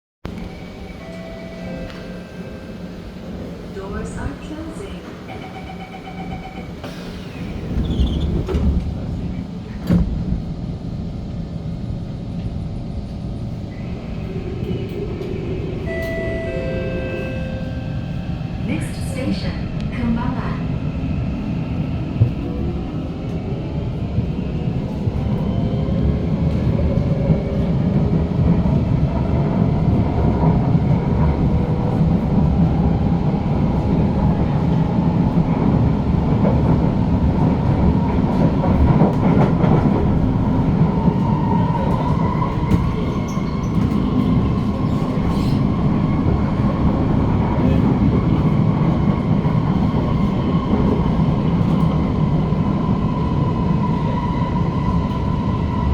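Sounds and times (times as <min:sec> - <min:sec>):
train wheels rumbling on rail: 0:00.3 - 0:55.9.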